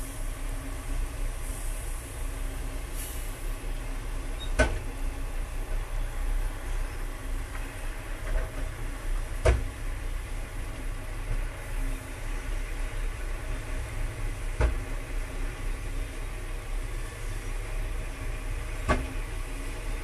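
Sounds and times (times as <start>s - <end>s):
diesel machinery rumble: 0.0s - 20.0s.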